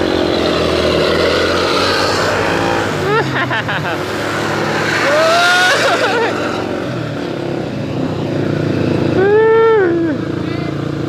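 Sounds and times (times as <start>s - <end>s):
engine and road drone: 0.0s - 11.0s.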